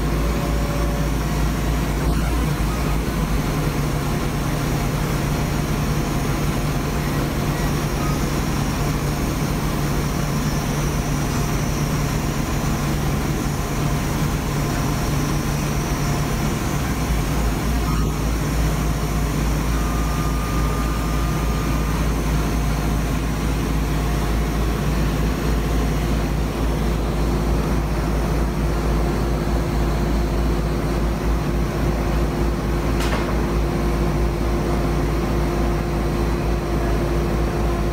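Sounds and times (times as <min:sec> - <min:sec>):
laser cutter machine drone: 0:00.0 - 0:37.9.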